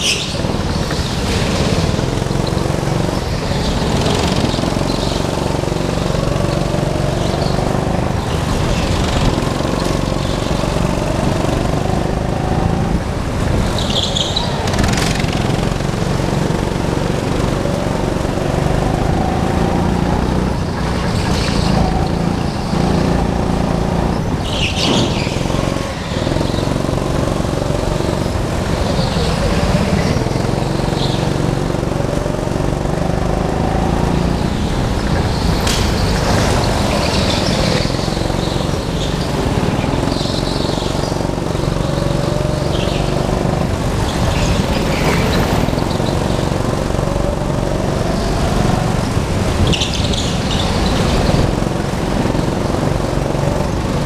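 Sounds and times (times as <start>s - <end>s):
go-kart engine running hard: 0.0s - 54.0s
kart tyres squealing: 0.0s - 54.0s.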